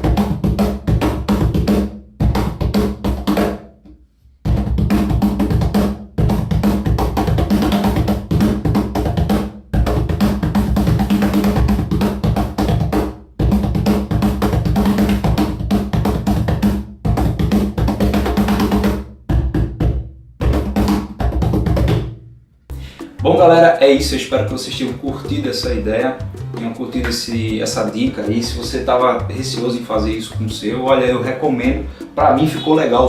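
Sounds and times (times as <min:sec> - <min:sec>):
cajon played by hand: 0:00.0 - 0:03.9, 0:04.5 - 0:33.0.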